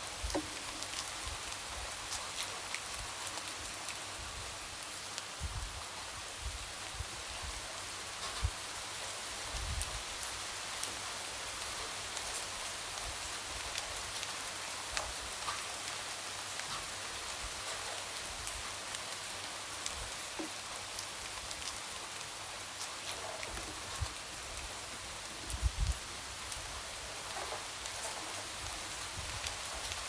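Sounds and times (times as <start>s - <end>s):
light rain hissing: 0.0s - 30.0s.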